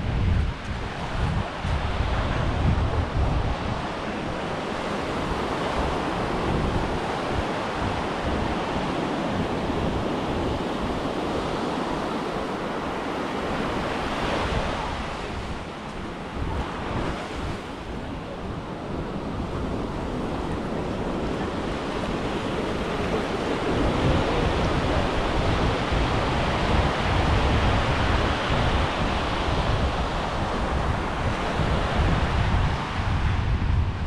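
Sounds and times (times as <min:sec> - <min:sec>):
wind buffeting microphone: 0:00.0 - 0:34.0
small waves breaking on shore: 0:00.4 - 0:33.3.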